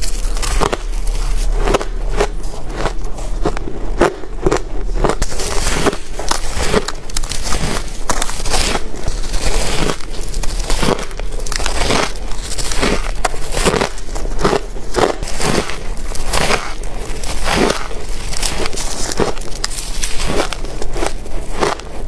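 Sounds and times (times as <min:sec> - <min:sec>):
crunching shaved ice: 0:00.0 - 0:22.0
faint steady hum: 0:00.0 - 0:22.0.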